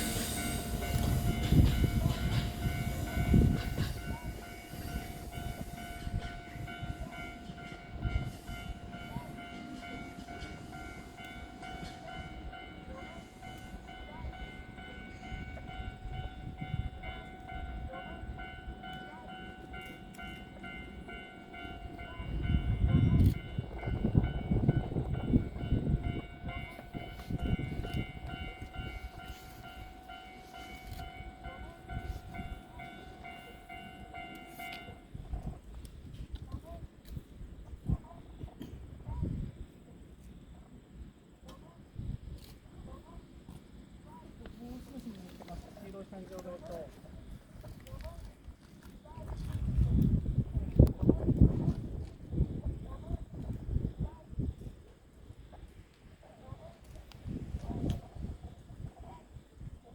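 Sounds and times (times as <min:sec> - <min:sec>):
low rumbling of train movement: 0:00.0 - 0:59.9.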